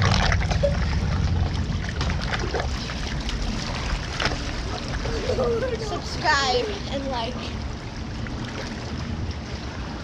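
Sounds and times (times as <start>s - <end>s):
steady low rumble: 0.0s - 10.0s
water sloshing and splashing: 0.0s - 10.0s.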